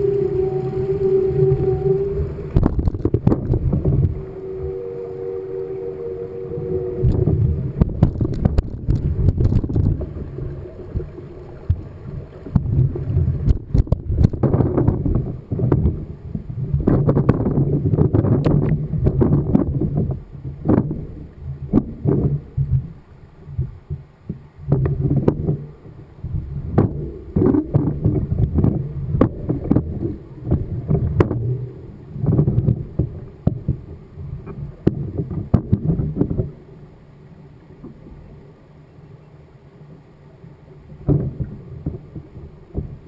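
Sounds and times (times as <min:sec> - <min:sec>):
wind buffeting microphone: 0:00.0 - 0:36.6
quiet hum: 0:00.0 - 0:43.0.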